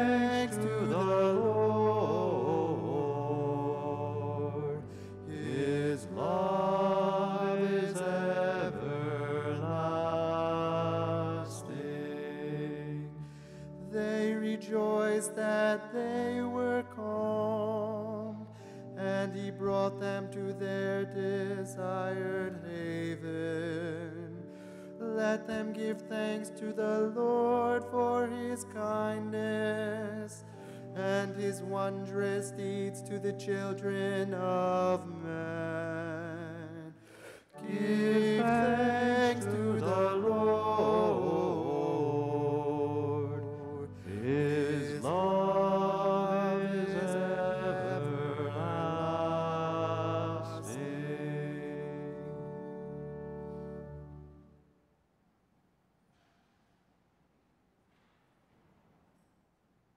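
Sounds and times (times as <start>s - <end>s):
person singing with vibrato: 0.0s - 52.8s
sustained organ chords: 0.0s - 54.6s.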